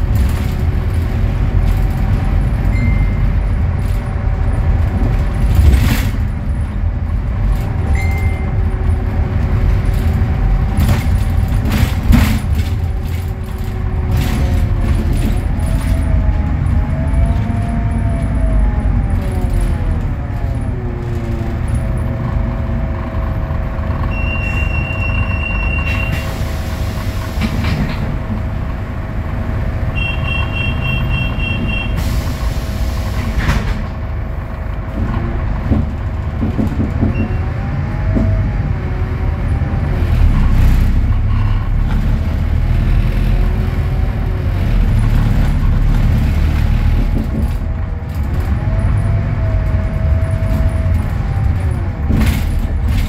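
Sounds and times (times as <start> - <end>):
diesel bus idling: 0.0 - 53.0
street traffic: 0.0 - 53.0.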